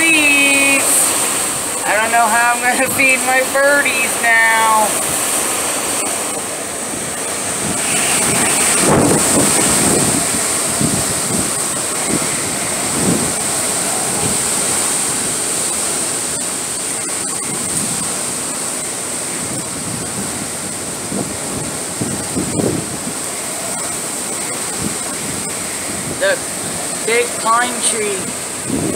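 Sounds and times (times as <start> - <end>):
driving rain: 0.0 - 28.9
hurricane wind: 0.0 - 28.9.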